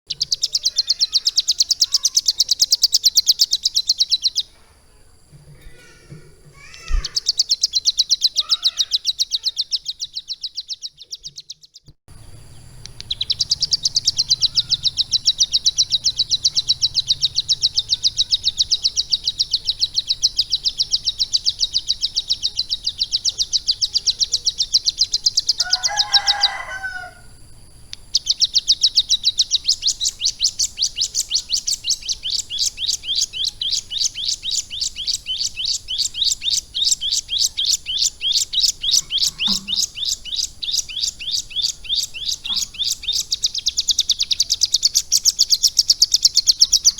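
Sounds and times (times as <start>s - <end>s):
bird chattering low notes: 0.1s - 4.5s, 5.4s - 27.1s, 28.2s - 46.9s
bird singing fast high trills: 0.1s - 4.5s, 6.6s - 27.2s, 28.1s - 46.9s.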